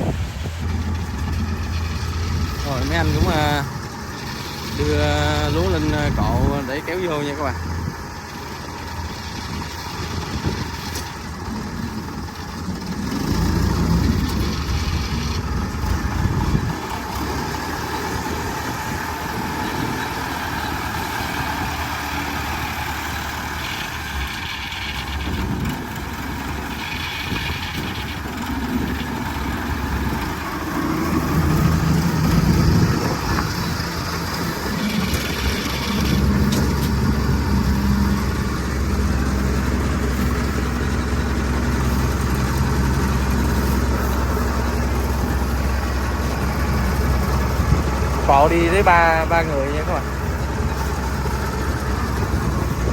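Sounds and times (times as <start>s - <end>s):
engine running near idle: 0.0s - 52.9s.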